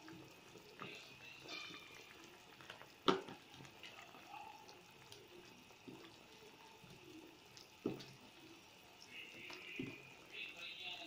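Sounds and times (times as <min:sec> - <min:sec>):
broth bubbling faintly: 0:00.0 - 0:11.0.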